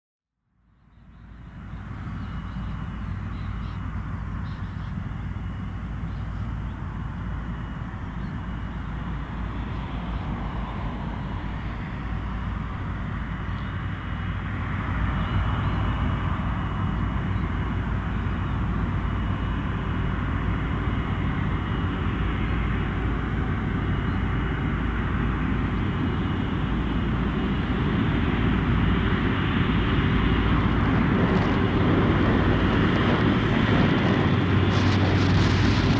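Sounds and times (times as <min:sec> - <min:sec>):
jet engines running: 0:01.4 - 0:35.9.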